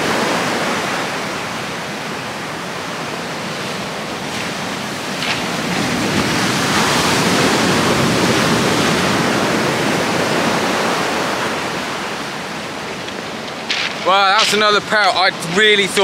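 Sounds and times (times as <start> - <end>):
heavy surf breaking: 0.0 - 16.0.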